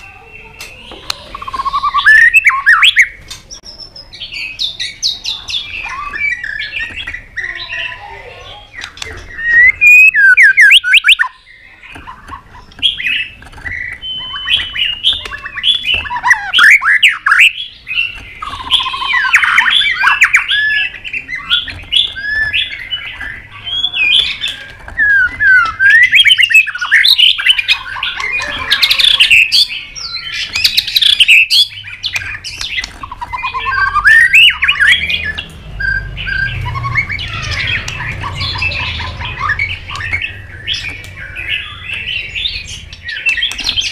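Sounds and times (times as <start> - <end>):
bird singing whistled phrases: 1.3 - 11.7, 14.0 - 43.8
bird clicking notes: 8.7 - 43.9.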